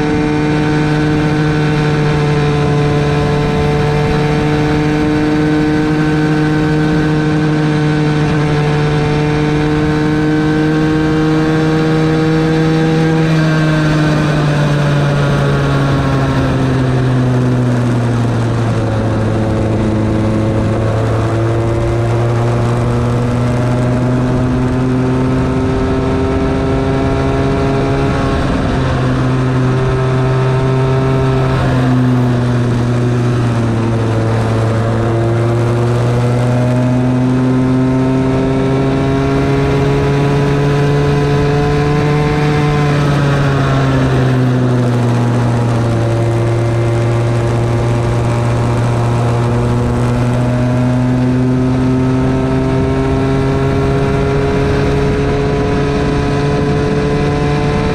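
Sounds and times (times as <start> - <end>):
small two-stroke kart engine: 0.0 - 57.9.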